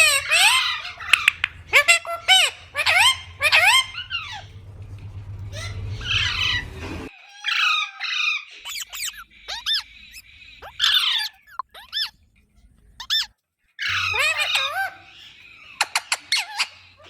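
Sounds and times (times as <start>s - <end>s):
parrot screeching: 0.0s - 12.2s, 13.0s - 17.0s
background hum: 0.0s - 17.0s.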